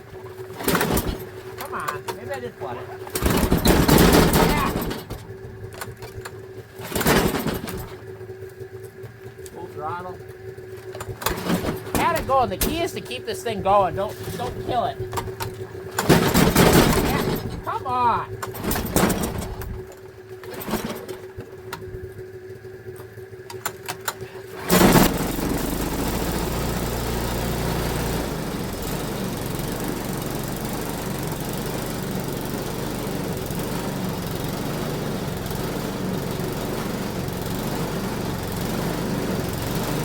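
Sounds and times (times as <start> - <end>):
snowblower engine running: 0.0 - 40.0.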